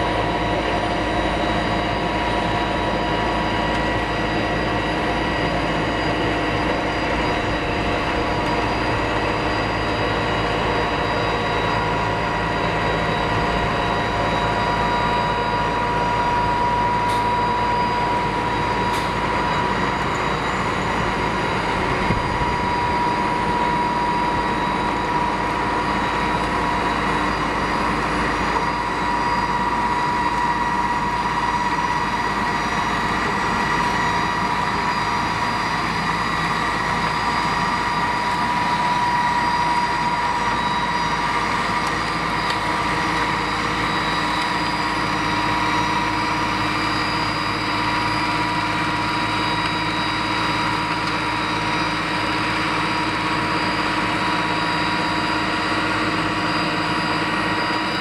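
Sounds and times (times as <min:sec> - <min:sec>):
engine drone: 0:00.0 - 0:58.0
high whine: 0:00.0 - 0:58.0.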